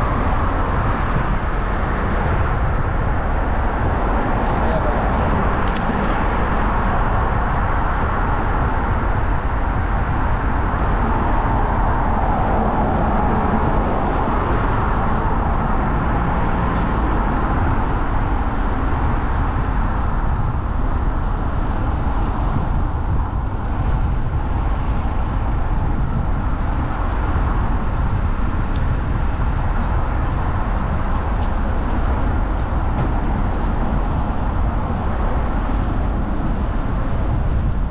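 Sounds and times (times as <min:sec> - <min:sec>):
road traffic driving past: 0:00.0 - 0:37.9.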